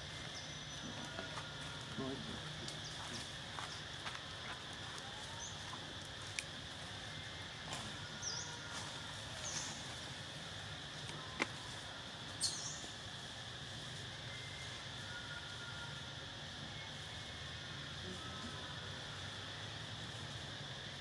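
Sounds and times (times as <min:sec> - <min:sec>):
steady high hum: 0:00.0 - 0:21.0.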